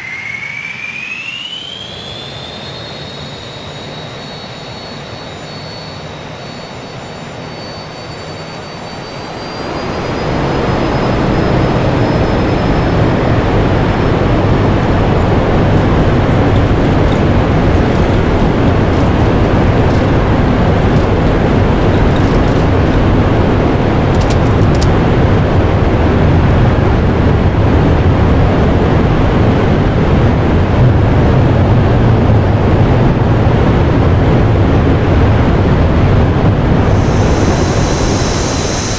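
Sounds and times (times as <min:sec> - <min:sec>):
jet engine turbine whine: 0:00.0 - 0:38.9.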